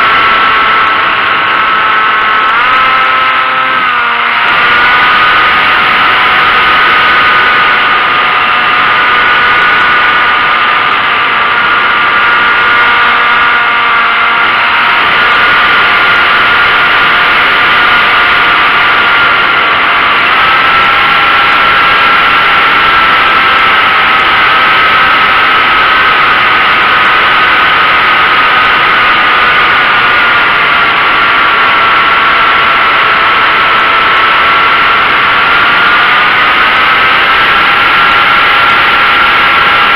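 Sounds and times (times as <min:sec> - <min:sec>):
model airplane motor whine: 0:00.0 - 0:39.9
wind noise: 0:00.0 - 0:39.9.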